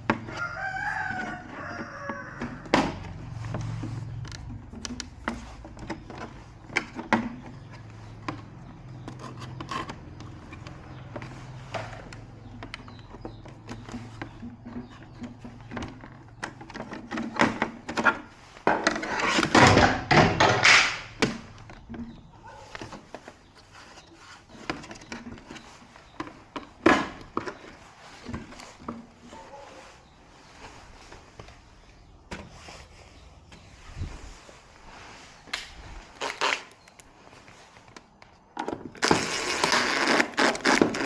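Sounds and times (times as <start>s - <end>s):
objects being handled: 0.0s - 41.0s
rustling and scraping: 0.0s - 41.0s.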